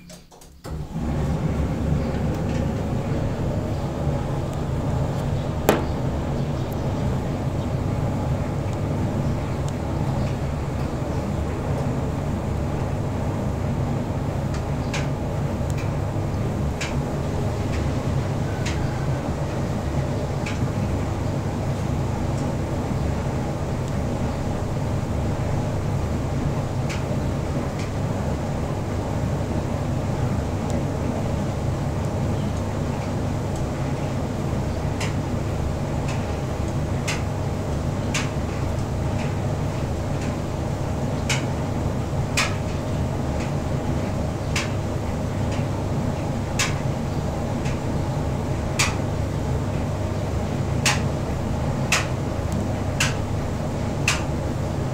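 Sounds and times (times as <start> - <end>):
tumble dryer humming: 0.4 - 54.9.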